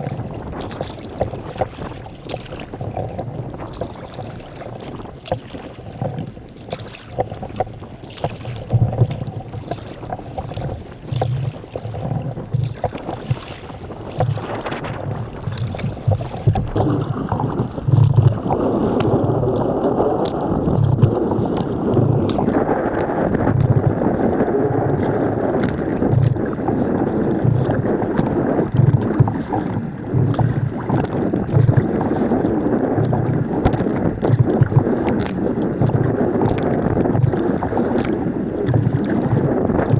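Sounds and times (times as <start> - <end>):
water splashing around kayak: 0.0 - 39.9
wind buffeting microphone: 0.0 - 39.9.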